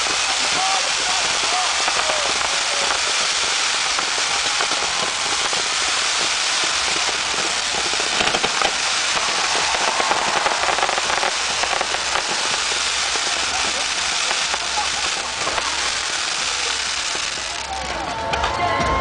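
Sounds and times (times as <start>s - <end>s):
fireworks crackling and popping: 0.0s - 18.5s.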